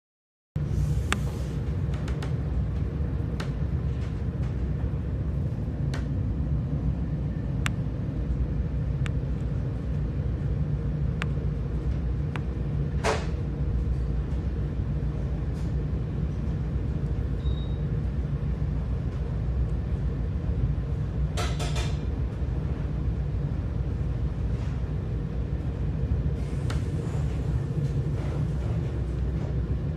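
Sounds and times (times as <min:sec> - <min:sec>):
passenger train rumbling: 0:00.6 - 0:29.9.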